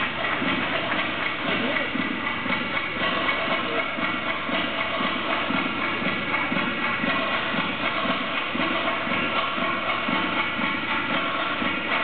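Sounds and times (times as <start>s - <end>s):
music over loudspeakers: 0.0s - 12.0s.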